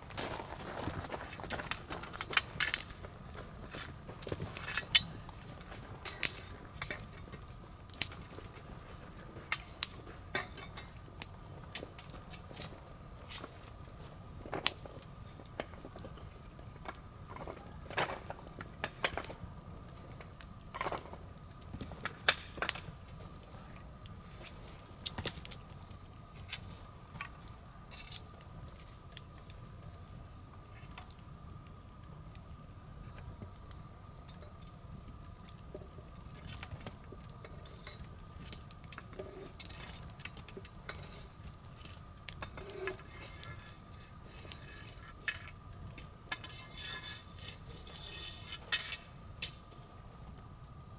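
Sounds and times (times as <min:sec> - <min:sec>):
bonfire pops and snaps: 0:00.0 - 0:50.9
low rumble of burning fire: 0:00.0 - 0:50.9.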